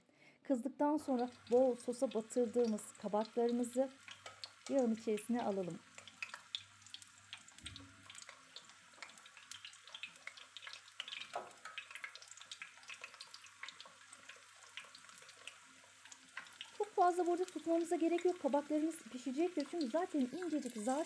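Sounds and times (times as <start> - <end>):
food frying in hot oil: 0.9 - 21.0.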